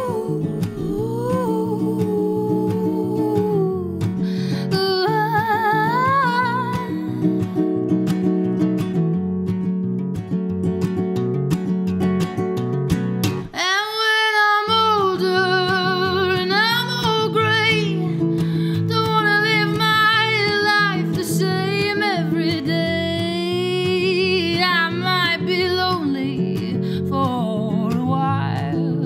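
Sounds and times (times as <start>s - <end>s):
strummed acoustic guitar: 0.0s - 29.0s.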